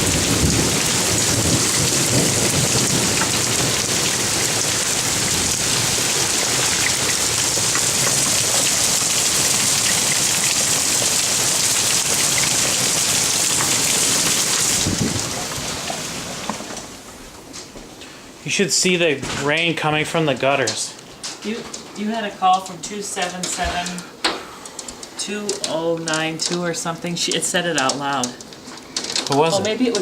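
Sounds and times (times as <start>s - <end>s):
heavy rain pouring: 0.0s - 17.5s, 18.5s - 30.0s
faint hail ticks: 0.1s - 18.1s, 19.5s - 30.0s.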